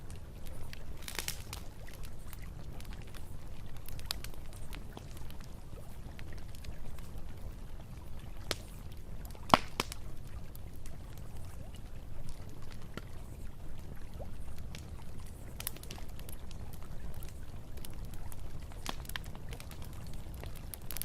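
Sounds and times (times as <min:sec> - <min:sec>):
burning wood crackling and popping: 0:00.0 - 0:21.0.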